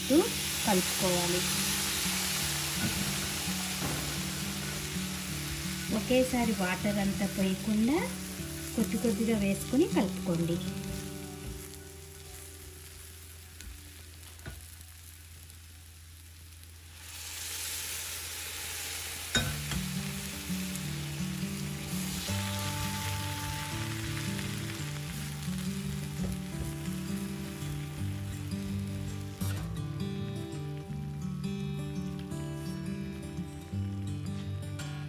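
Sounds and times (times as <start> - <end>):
background music: 0.0 - 14.4, 19.4 - 35.0
water sizzling in a hot pan: 0.0 - 34.5.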